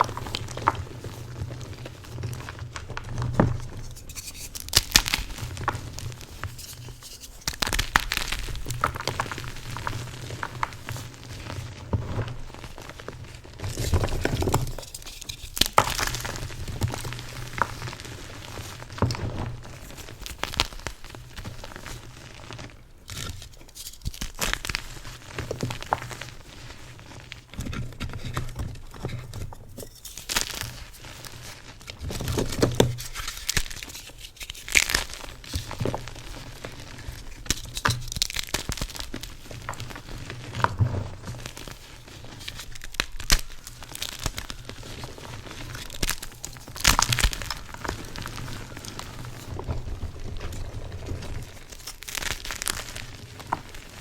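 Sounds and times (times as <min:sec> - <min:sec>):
chalk crunching and crumbling: 0:00.0 - 0:54.0.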